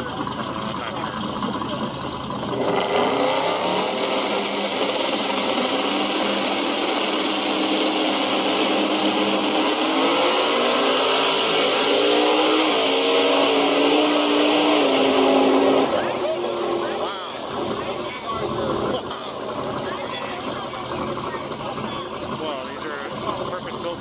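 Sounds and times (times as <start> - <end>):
drag racing car accelerating: 0.0 - 24.0.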